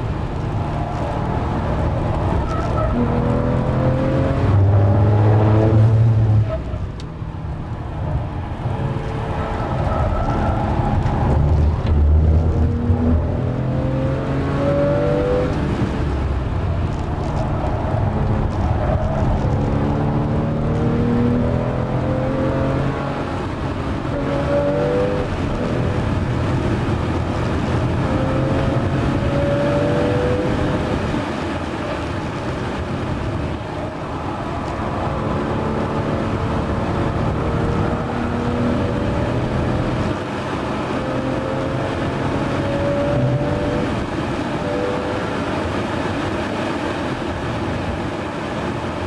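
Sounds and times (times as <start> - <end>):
car engine accelerating through gears: 0.0 - 48.3.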